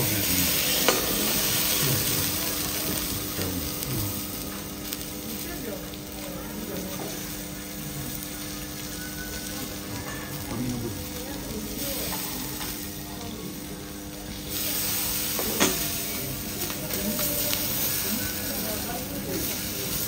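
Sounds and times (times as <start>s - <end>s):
seafood sizzling on griddle: 0.0s - 20.0s.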